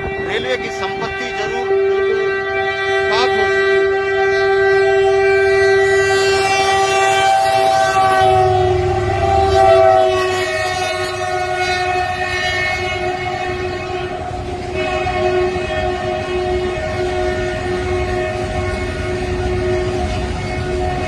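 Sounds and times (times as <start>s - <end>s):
locomotive engine rumble: 0.0s - 21.0s
locomotive horn blast: 0.0s - 21.0s.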